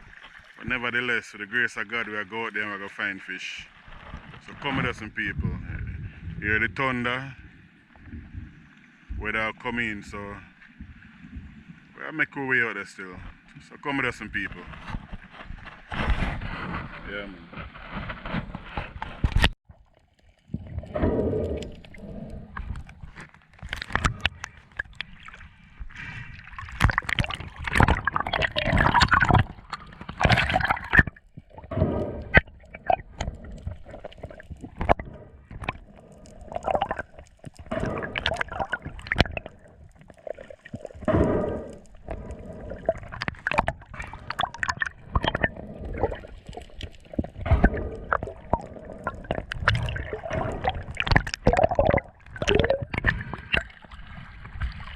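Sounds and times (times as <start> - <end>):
water splashes: 0.0 - 18.0, 19.3 - 54.9
water sloshing and gurgling: 0.0 - 54.9.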